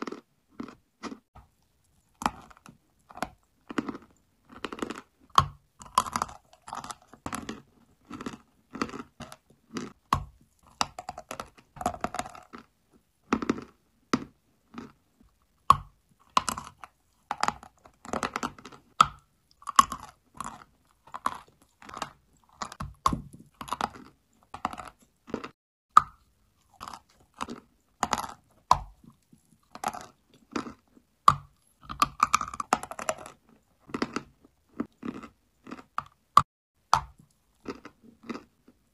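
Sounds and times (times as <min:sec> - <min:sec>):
chalk being chewed crunching: 0:00.0 - 0:12.7, 0:16.2 - 0:36.2, 0:37.0 - 0:38.9.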